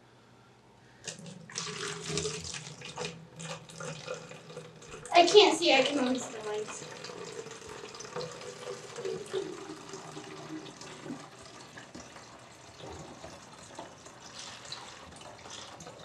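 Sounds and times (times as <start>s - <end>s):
water pouring into plastic bottle: 1.1s - 16.0s.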